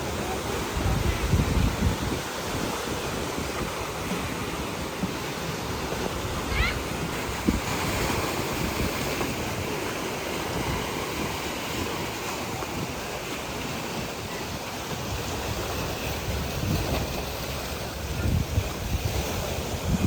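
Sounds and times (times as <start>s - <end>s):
sea waves surf: 0.0s - 20.0s
wind buffeting microphone: 0.0s - 20.0s.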